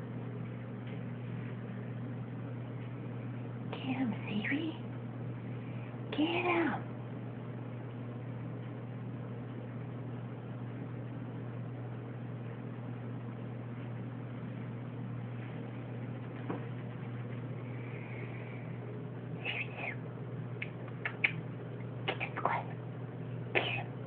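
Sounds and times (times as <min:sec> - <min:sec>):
low hum and hiss: 0:00.0 - 0:24.0.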